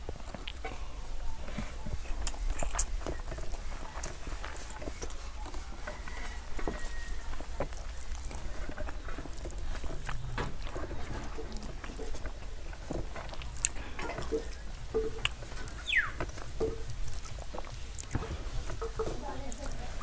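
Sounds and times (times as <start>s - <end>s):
wet chewing and lip smacks: 0.0s - 20.0s.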